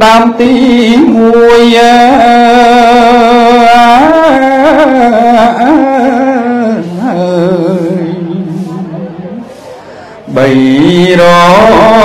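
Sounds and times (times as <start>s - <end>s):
man chanting: 0.0s - 9.4s, 10.3s - 12.0s.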